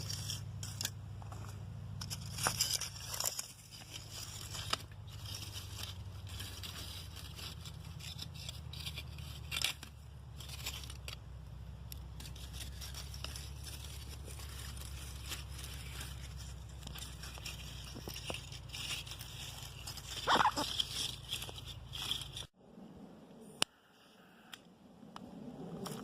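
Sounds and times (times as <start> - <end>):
dry wood crackling and snapping: 0.0 - 22.6
low steady rumble: 0.0 - 23.7.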